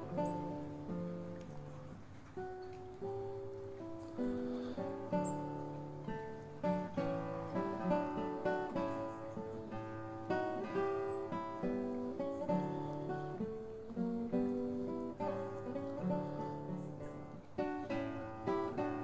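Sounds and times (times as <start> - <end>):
picked acoustic guitar: 0.0 - 19.0.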